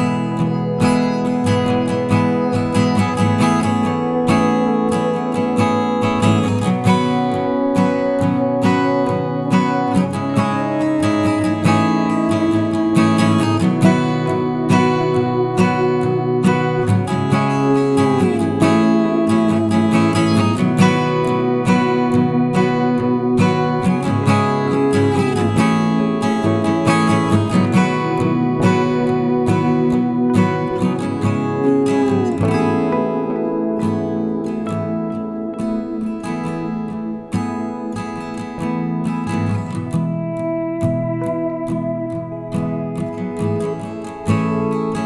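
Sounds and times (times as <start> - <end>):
strummed acoustic guitar: 0.0 - 45.0.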